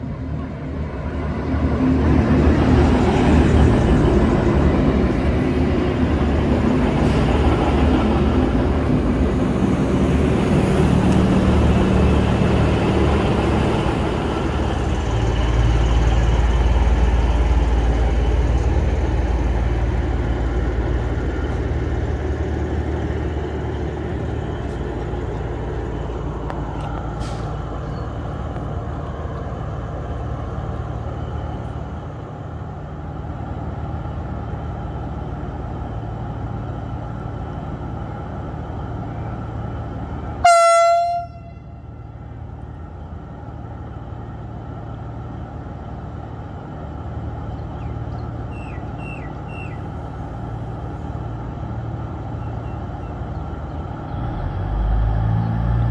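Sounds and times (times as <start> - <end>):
diesel engines rumbling: 0.0 - 55.9.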